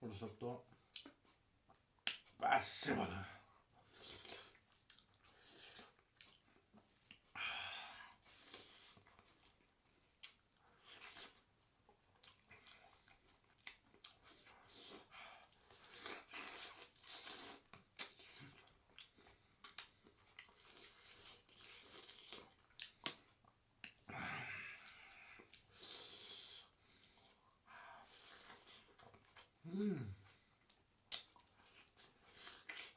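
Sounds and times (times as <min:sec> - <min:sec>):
chewing and wet mouth noises: 0:00.9 - 0:02.4, 0:03.8 - 0:07.4, 0:08.2 - 0:24.1, 0:24.8 - 0:29.6, 0:30.2 - 0:32.9.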